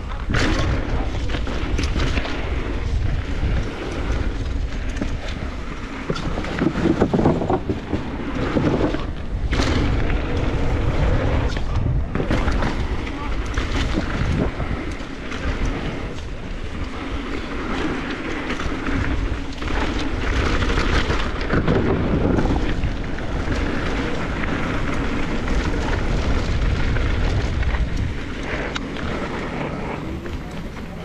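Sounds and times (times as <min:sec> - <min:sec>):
bike tyres rumbling on dirt: 0:00.0 - 0:31.0
wind buffeting microphone: 0:00.0 - 0:31.0.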